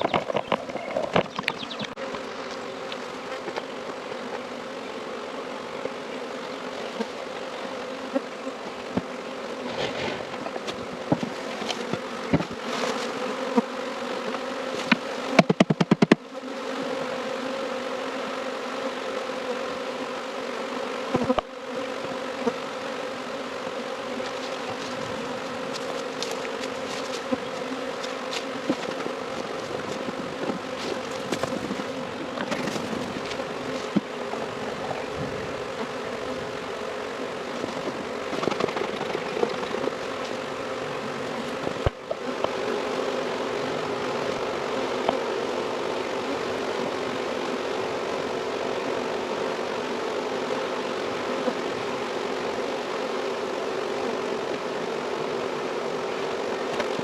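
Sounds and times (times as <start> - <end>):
honey bees buzzing: 0.0 - 57.0.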